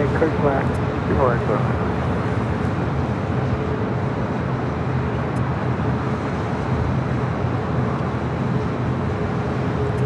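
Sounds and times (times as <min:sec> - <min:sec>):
jet engines rumbling at takeoff: 0:00.0 - 0:10.0.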